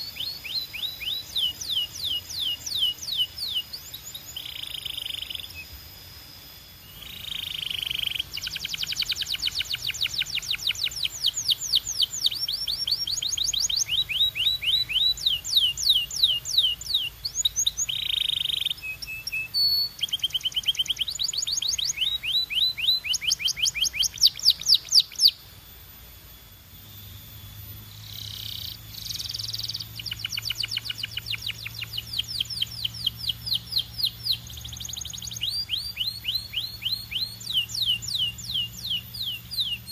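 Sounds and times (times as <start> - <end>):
canary singing trills: 0.0 - 5.8, 6.8 - 25.4, 26.9 - 39.9.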